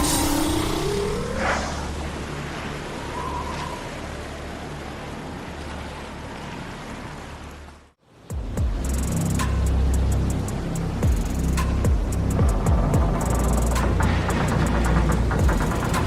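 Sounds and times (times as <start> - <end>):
boat engine hum: 0.0 - 8.0, 8.7 - 16.0
waves: 0.0 - 16.0.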